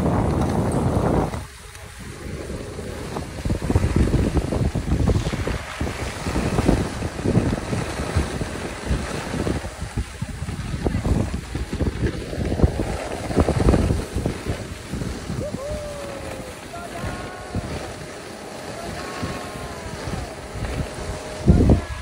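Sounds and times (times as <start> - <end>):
skis sliding on snow: 0.0 - 22.0
wind buffeting microphone: 0.0 - 22.0.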